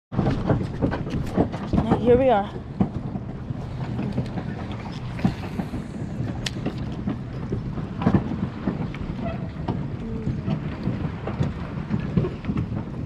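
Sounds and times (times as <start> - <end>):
wind noise on microphone: 0.1 - 13.0.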